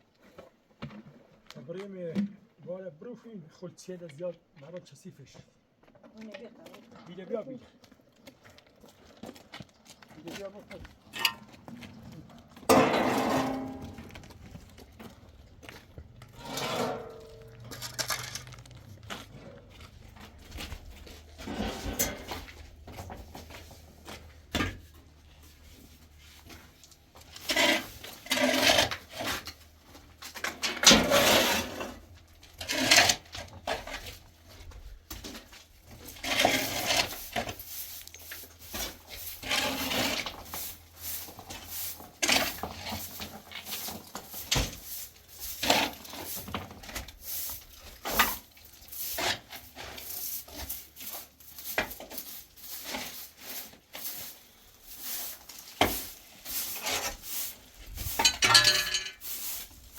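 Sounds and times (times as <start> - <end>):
objects clattering and scraping: 8.2 - 59.9.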